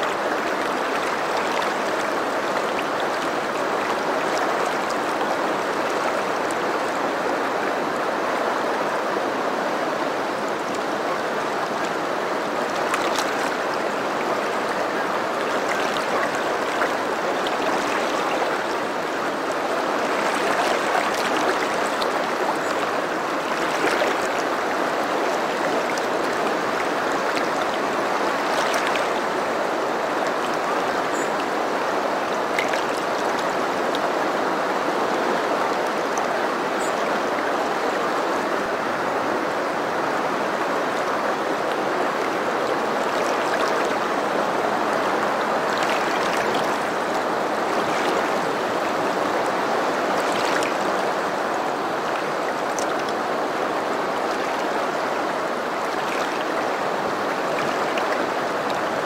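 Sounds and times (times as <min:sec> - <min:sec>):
small water splashes: 0:00.0 - 0:07.0, 0:10.4 - 0:34.2, 0:40.6 - 0:59.0
water rushing over rocks: 0:00.0 - 0:59.0.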